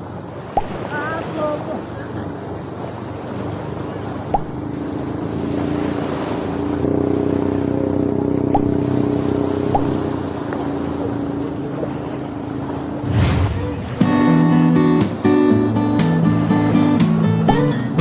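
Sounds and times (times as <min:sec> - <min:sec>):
boat engine drone: 0:00.0 - 0:18.0
small waves washing ashore: 0:00.0 - 0:18.0.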